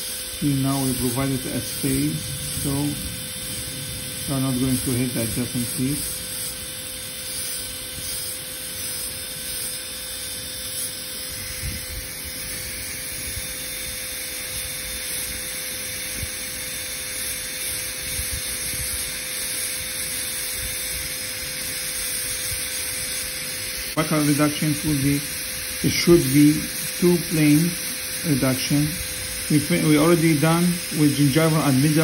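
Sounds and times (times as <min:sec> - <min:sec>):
dental drill high-pitched hiss: 0:00.0 - 0:32.0.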